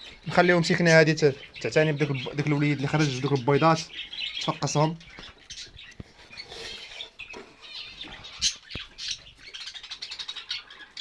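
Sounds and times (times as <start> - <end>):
birds fluttering: 0.0 - 11.0
small birds chirping: 0.0 - 11.0.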